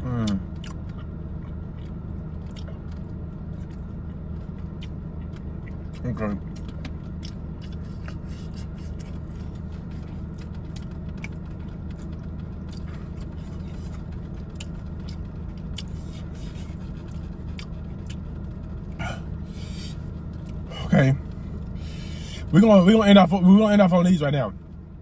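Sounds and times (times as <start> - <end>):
car idling hum: 0.0 - 25.0.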